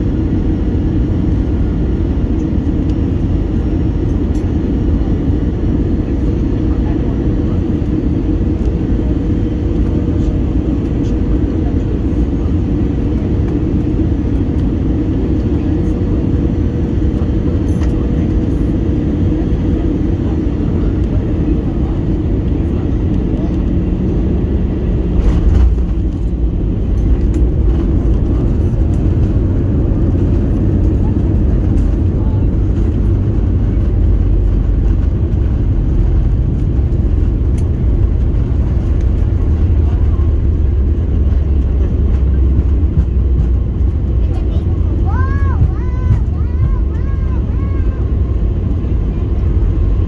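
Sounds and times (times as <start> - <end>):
airplane engines and airflow rumble: 0.0 - 50.0.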